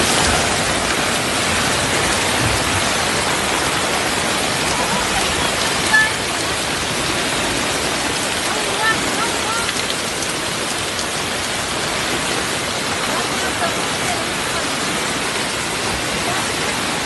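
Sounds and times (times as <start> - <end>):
heavy rain pouring: 0.0 - 17.0
running water: 0.0 - 17.0.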